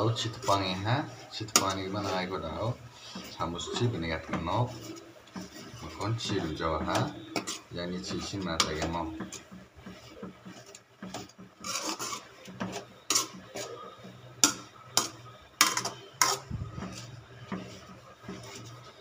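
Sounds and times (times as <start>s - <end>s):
metal spoon scraping steel pan: 0.0s - 19.0s.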